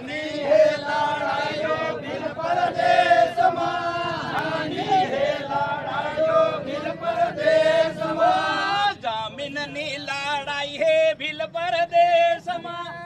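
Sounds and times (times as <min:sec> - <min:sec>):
men singing a chant-like folk song: 0:00.0 - 0:13.0.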